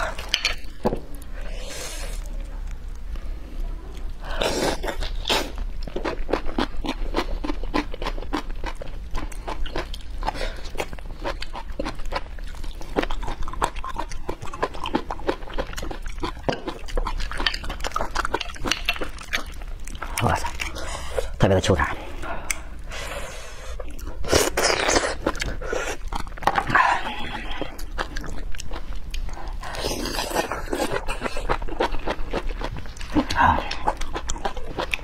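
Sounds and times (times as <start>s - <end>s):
wet chewing and mouth smacking: 4.6s - 21.3s, 23.7s - 35.0s.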